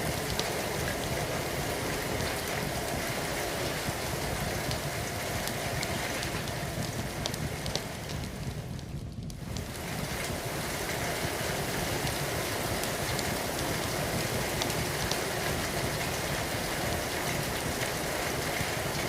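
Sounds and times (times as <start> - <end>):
steady rain falling: 0.0 - 19.0
wood fire crackling: 0.0 - 19.0.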